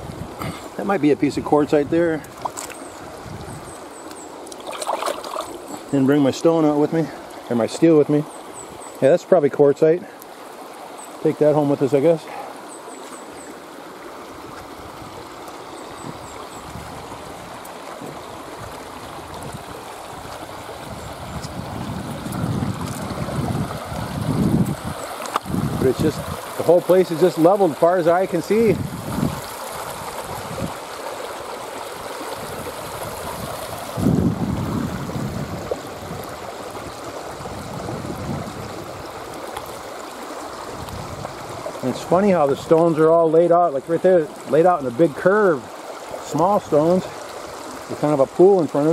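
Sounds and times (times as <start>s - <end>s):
river water rushing over stones: 0.0s - 48.9s.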